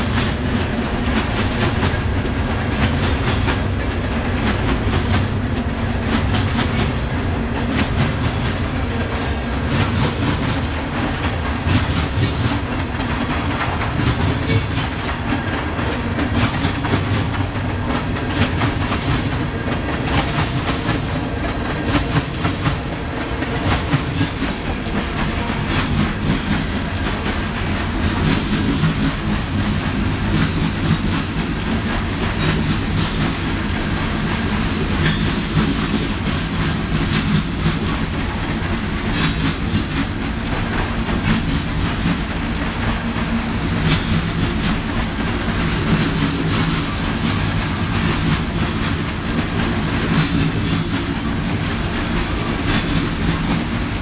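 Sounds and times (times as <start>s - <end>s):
train cars rumbling by: 0.0s - 54.0s
wheels clicking over rail joints: 0.0s - 54.0s.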